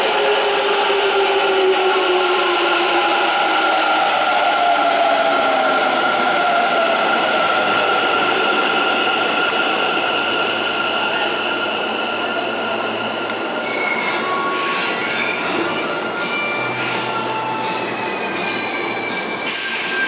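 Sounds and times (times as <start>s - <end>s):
electric train high whine: 0.0s - 20.0s.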